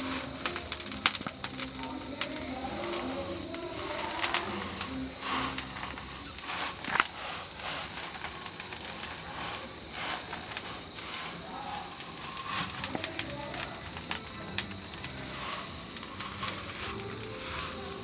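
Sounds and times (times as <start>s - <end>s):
tea leaves rustling in a wok: 0.0s - 18.0s.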